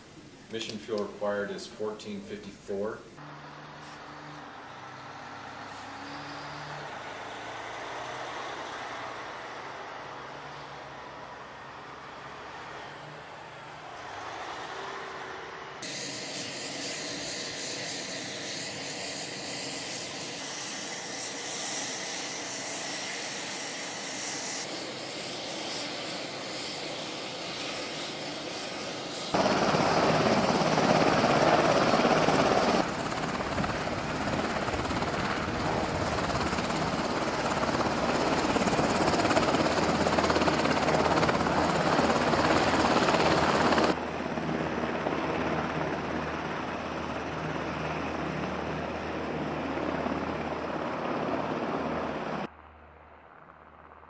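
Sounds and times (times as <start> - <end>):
helicopter engines and rotors: 0.0 - 54.0.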